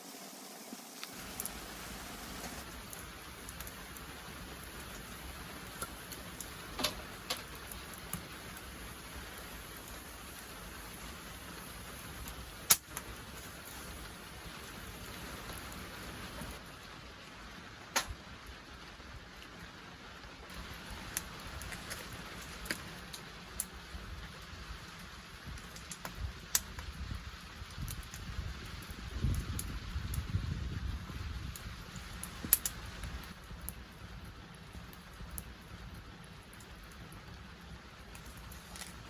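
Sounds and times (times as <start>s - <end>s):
wood fire crackling and popping: 1.0s - 39.0s.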